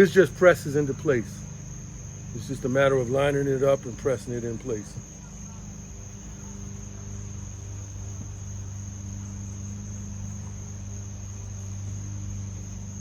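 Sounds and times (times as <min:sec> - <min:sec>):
insect chorus trilling: 0:00.0 - 0:13.0
low hum: 0:00.0 - 0:13.0.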